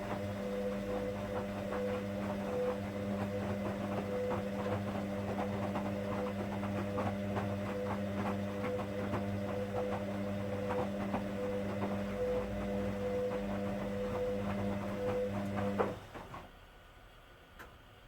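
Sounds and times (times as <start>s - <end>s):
washing machine motor hum: 0.0s - 16.6s.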